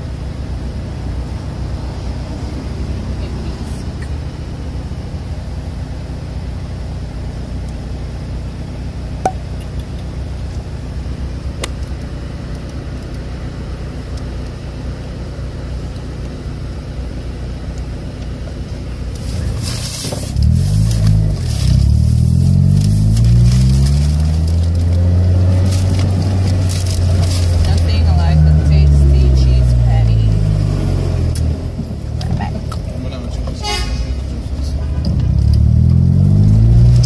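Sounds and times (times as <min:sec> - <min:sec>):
car engine running: 0:00.0 - 0:37.0
road and wind noise: 0:00.0 - 0:37.0.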